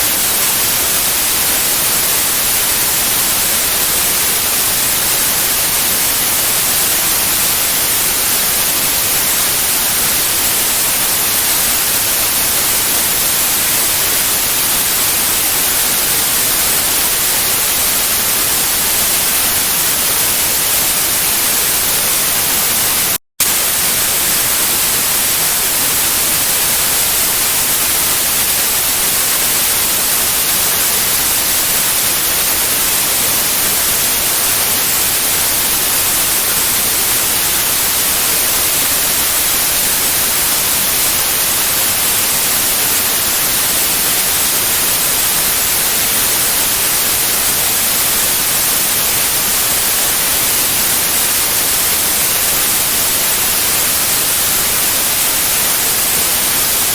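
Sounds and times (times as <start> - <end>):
white noise hiss: 0.0 - 56.9.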